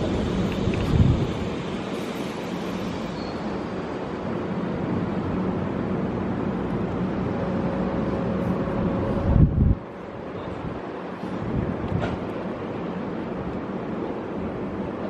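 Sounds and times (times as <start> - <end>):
electric train rail rumble: 0.0 - 15.0.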